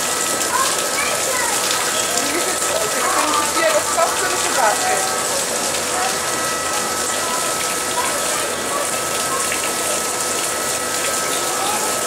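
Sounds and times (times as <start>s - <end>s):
water splashing into a pool: 0.0s - 12.0s.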